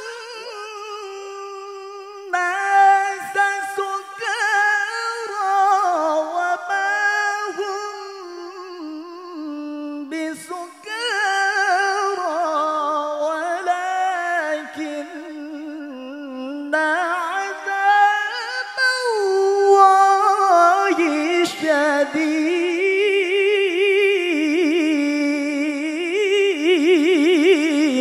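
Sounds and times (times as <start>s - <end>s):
man chanting through microphone: 0.0s - 28.0s.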